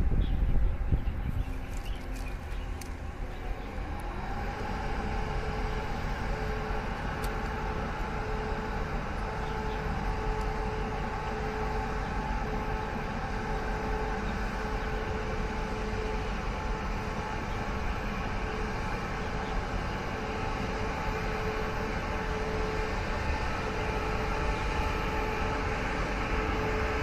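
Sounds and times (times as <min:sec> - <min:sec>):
electric train rumble: 0:00.0 - 0:27.0
two-tone motor whine: 0:00.0 - 0:27.0.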